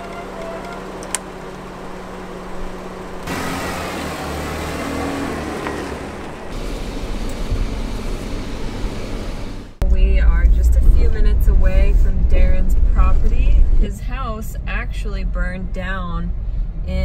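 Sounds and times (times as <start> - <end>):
car engine driving off: 0.0 - 13.9
road rumble inside car cabin: 0.0 - 17.0.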